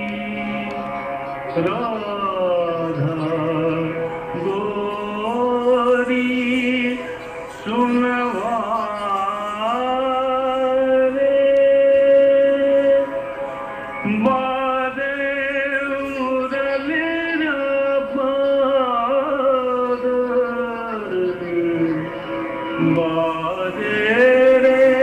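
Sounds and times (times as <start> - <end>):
person singing devotional song: 0.0 - 25.0.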